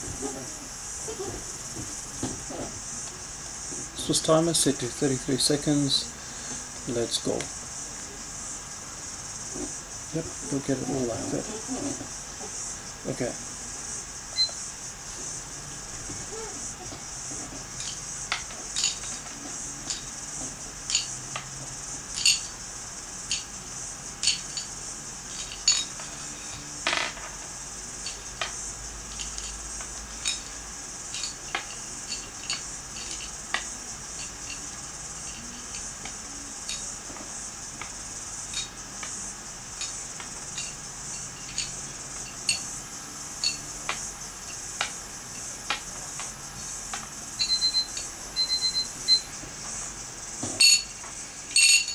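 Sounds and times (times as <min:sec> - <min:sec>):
steady high hiss: 0:00.0 - 0:51.9.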